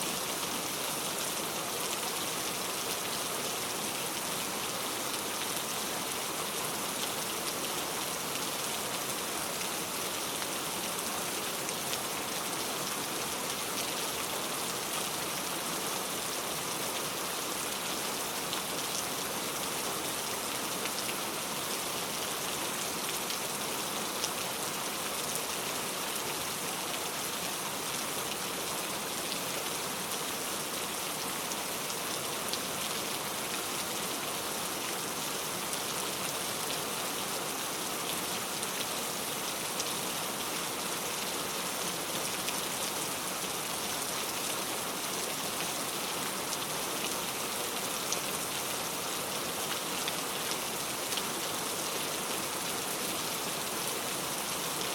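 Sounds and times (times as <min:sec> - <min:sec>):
heavy rain on a road: 0:00.1 - 0:54.9.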